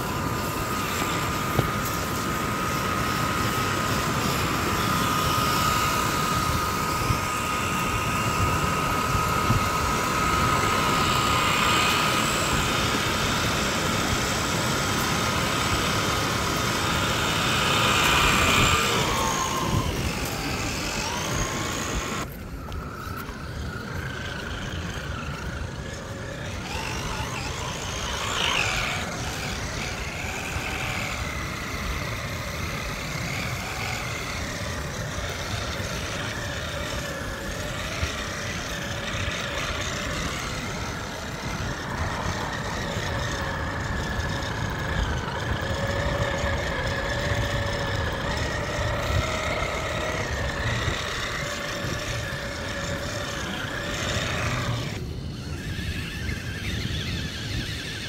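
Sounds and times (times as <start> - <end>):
model car motor whine: 0.0 - 58.0.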